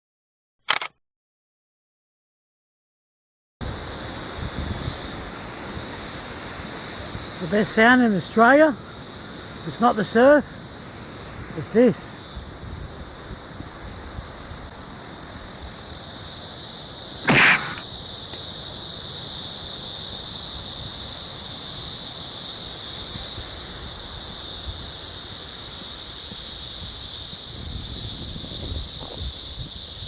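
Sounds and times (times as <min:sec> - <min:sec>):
cicadas buzzing: 0:03.6 - 0:30.0.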